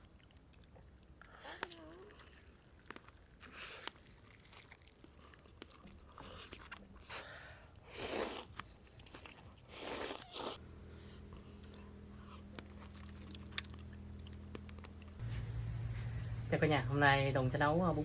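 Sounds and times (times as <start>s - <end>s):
chewing and biting: 0.0s - 10.6s, 11.2s - 15.2s.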